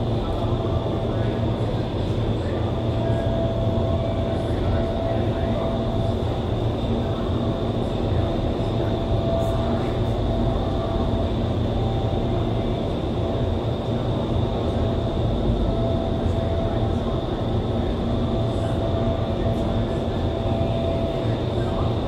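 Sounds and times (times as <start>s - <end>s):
faint high whine: 0.0s - 22.0s
fan hum: 0.0s - 22.0s.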